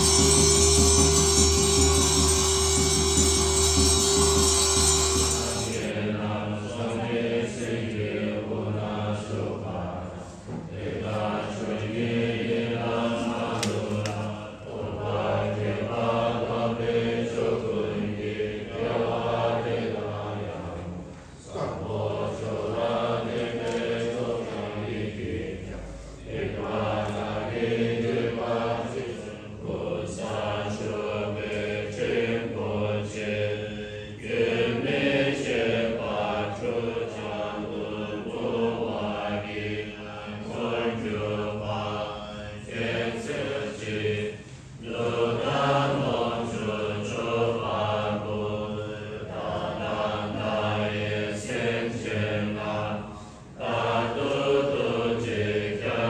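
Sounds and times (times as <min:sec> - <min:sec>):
group chanting prayers: 0:00.0 - 0:56.0.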